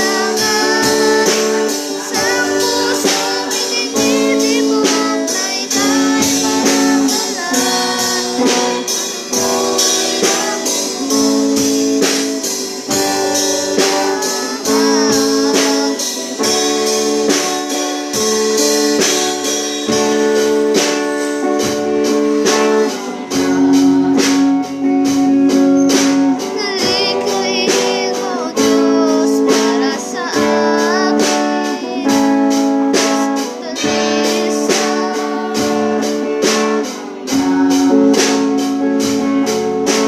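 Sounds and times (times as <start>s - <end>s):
drum kit beat: 0.0s - 40.0s
strummed guitar: 0.0s - 40.0s.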